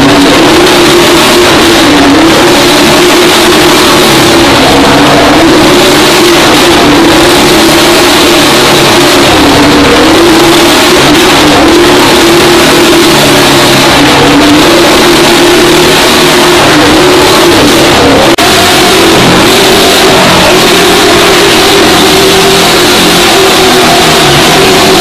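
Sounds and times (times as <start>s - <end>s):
motorcycle and kart engines: 0.0s - 25.0s.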